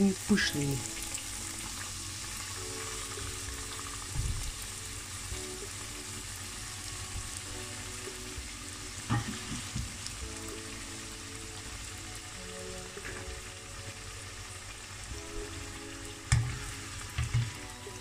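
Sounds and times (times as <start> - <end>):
dough sizzling in hot oil: 0.0 - 18.0.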